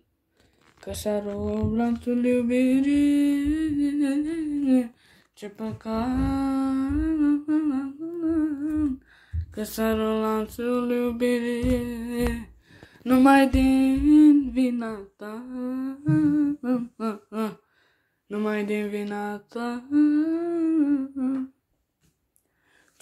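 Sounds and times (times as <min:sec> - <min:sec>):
boy singing wordless melody: 0:00.8 - 0:17.6, 0:18.3 - 0:21.6.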